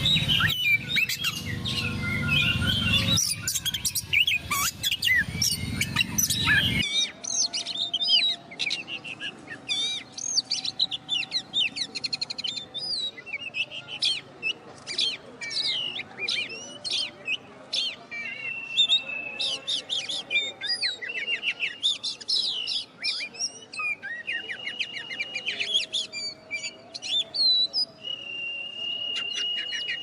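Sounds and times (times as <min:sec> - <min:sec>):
songbird whistles and trills: 0:00.0 - 0:30.0.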